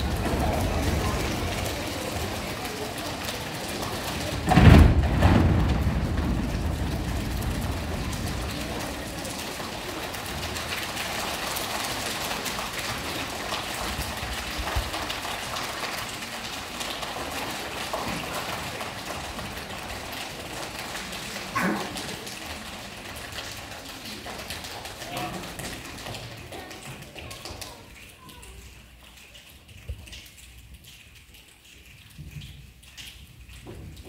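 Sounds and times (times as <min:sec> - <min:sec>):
audience applause: 0:00.0 - 0:28.4
murmur of children: 0:00.0 - 0:32.2.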